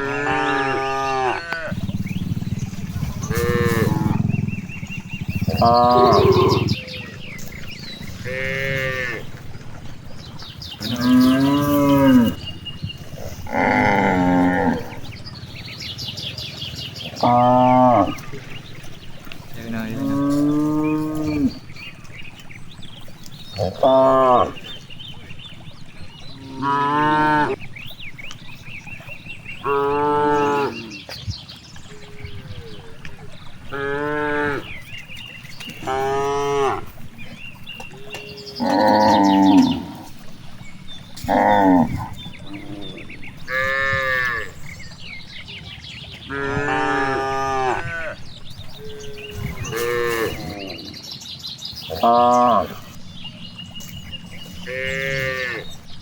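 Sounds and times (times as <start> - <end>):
cattle mooing: 0.0 - 15.2, 17.2 - 22.0, 23.2 - 24.9, 26.3 - 27.7, 28.7 - 31.0, 32.5 - 45.3, 46.3 - 51.0, 51.9 - 53.1, 53.8 - 56.0.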